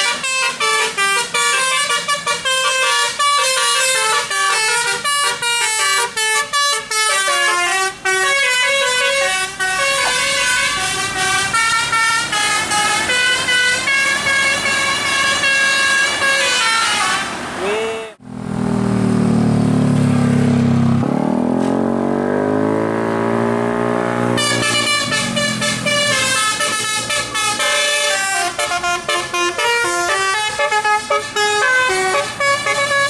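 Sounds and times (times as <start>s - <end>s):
bus horn playing a melody: 0.0s - 18.2s, 24.2s - 33.0s.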